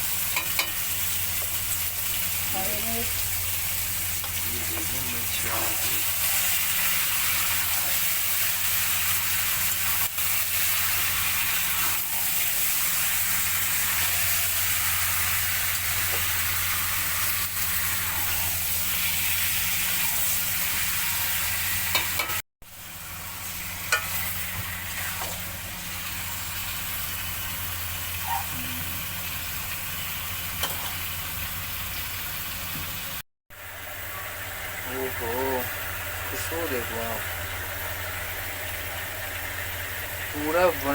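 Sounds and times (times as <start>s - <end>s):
chicken sizzling in a pan: 0.0s - 40.9s.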